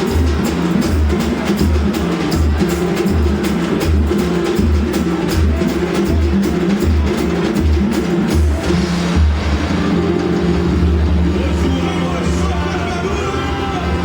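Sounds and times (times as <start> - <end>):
sharp quick percussion hits: 0.0 - 12.0.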